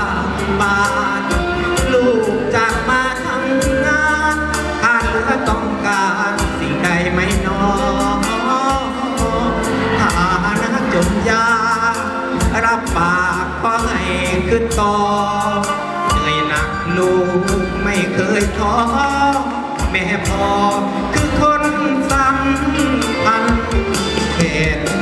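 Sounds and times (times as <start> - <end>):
steady drum beat: 0.0 - 16.8, 17.5 - 25.0
song with singer and band: 0.0 - 25.0.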